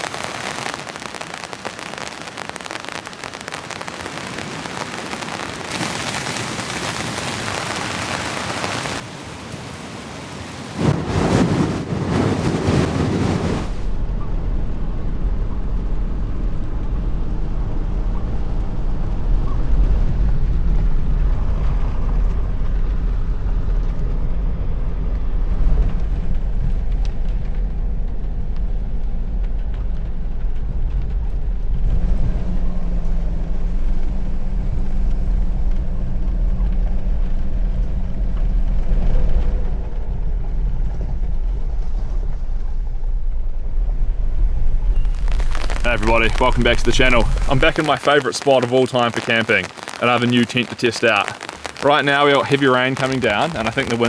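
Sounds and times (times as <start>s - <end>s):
heavy rain: 0.0s - 41.8s, 44.9s - 54.0s.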